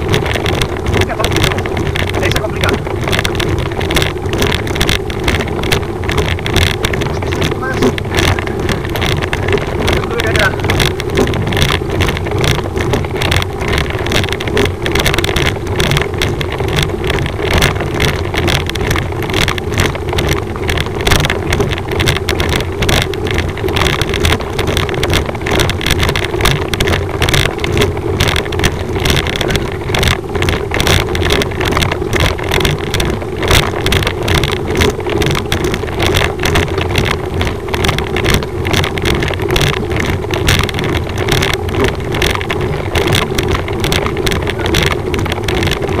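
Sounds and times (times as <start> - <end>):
road vibration rattling: 0.0 - 46.0
wind buffeting microphone: 0.0 - 46.0.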